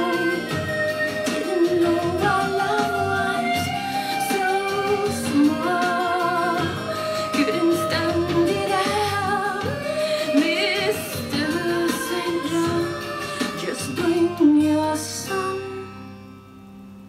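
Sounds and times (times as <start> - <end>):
woman singing over keyboards: 0.0 - 16.0.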